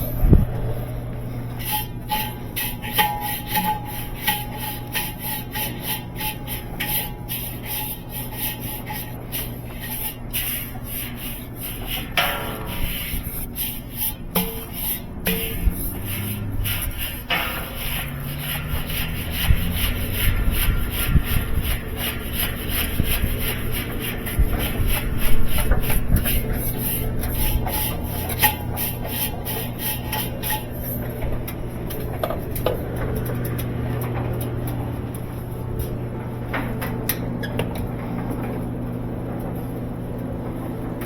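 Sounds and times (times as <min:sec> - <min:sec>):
rhythmic scraping strokes: 0:00.0 - 0:38.4
steady low hum: 0:00.0 - 0:41.0.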